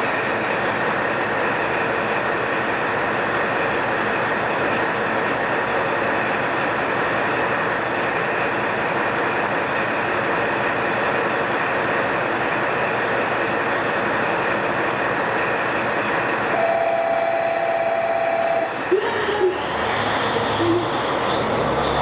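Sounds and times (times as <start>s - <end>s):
diesel train rumbling on rails: 0.0s - 22.0s.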